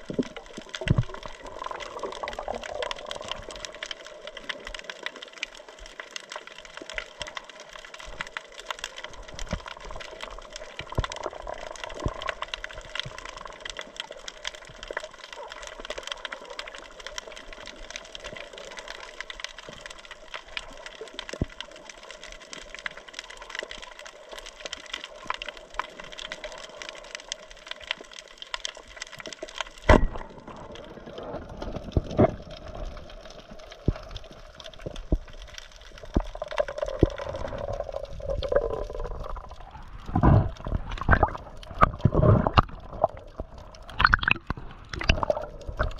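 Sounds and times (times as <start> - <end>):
underwater water noise: 0.0 - 45.9.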